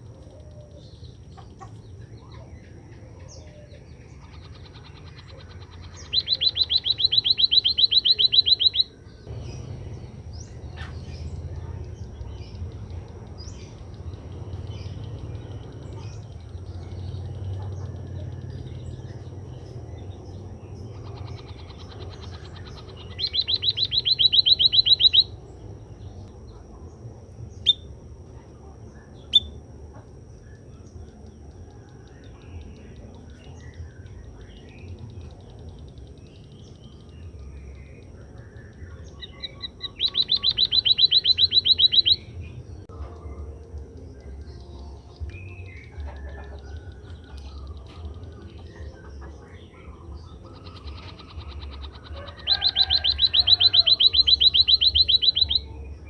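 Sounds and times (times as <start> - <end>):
bird trilling: 0.0 - 26.6, 27.5 - 28.0, 30.5 - 42.5, 45.4 - 56.0
high bird chirps: 0.1 - 26.8, 29.1 - 42.6, 44.0 - 56.0
low background rumble: 8.8 - 56.0.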